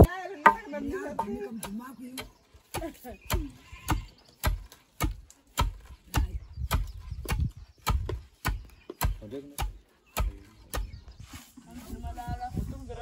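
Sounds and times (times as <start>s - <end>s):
pestles pounding in mortar: 0.0s - 11.0s.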